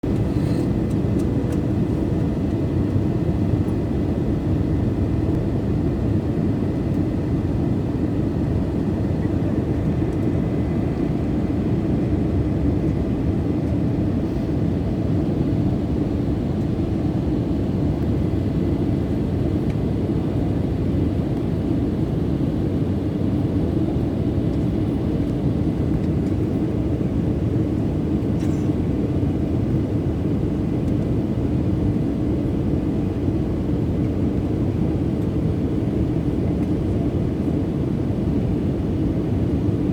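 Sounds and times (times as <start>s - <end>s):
aircraft cabin engine and airflow noise: 0.0s - 39.9s.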